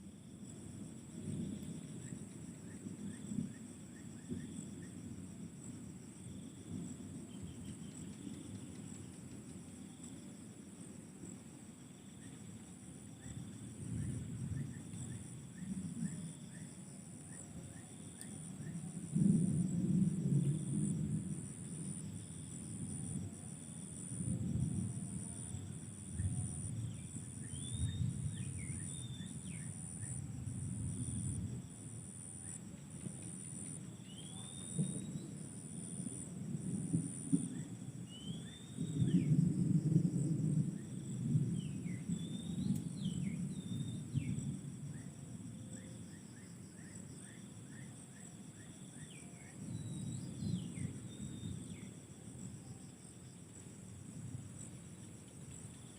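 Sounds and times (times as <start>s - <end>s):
insect high drone: 0.0s - 55.9s
insect pulsed trill: 0.0s - 55.9s.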